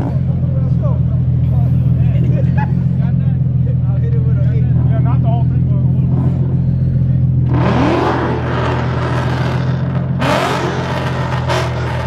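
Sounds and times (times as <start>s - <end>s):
steady low rumble: 0.0s - 10.2s
car engine revving: 0.0s - 12.0s.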